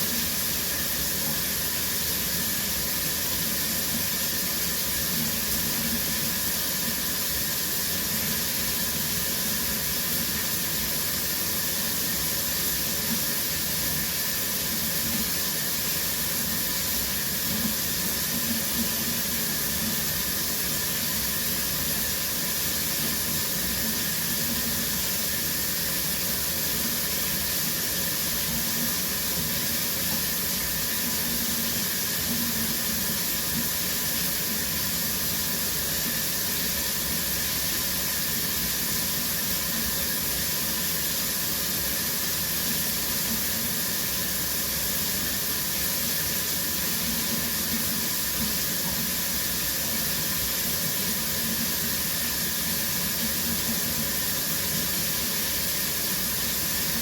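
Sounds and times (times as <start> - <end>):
shower spray running: 0.0 - 57.0.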